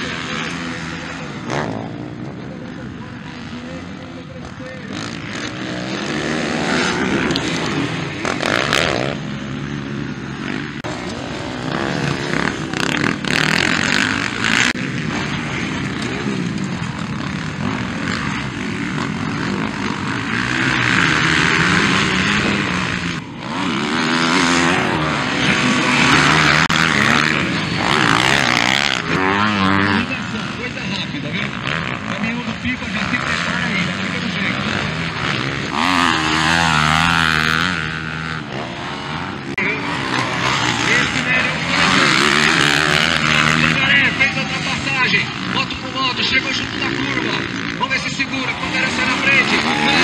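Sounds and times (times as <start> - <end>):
dirt bike engines revving: 0.0 - 50.0.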